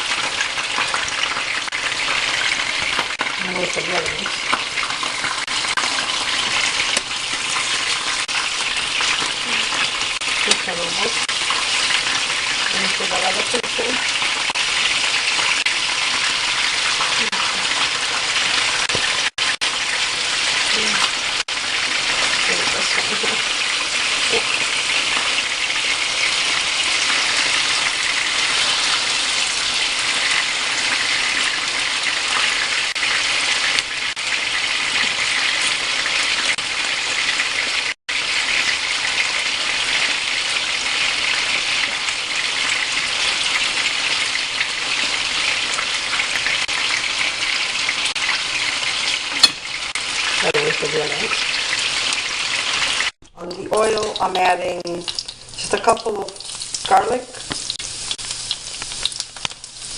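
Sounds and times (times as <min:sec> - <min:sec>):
food sizzling in hot oil: 0:00.0 - 0:59.9.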